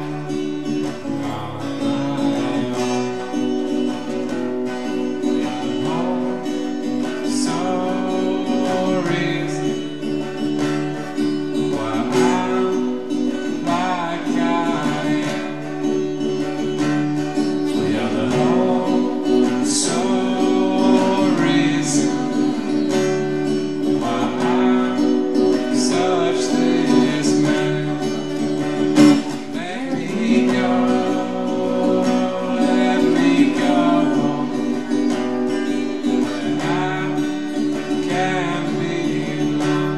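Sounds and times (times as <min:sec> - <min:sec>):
acoustic guitar strummed: 0:00.0 - 0:39.9.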